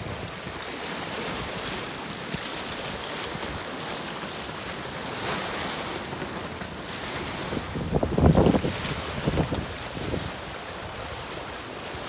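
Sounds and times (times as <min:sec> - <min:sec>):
waves washing against rocks: 0:00.0 - 0:12.0
wind blowing: 0:00.0 - 0:12.0.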